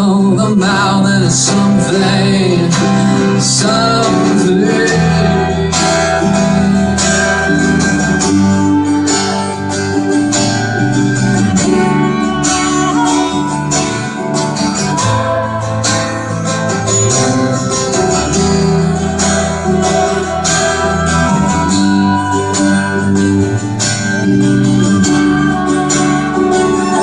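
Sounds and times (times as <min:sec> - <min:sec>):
live pop-rock band playing: 0:00.0 - 0:27.0
strummed guitars: 0:00.0 - 0:27.0.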